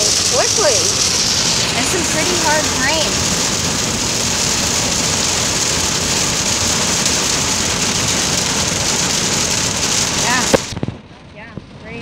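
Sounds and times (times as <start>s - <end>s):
hard rain on a car: 0.0s - 12.0s.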